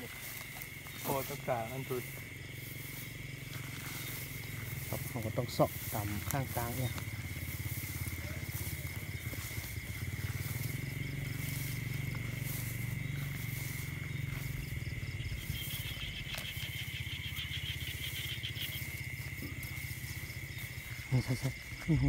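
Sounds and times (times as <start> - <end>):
high-pitched insect tone: 0.0 - 22.0
pulsing insect trill: 0.0 - 22.0.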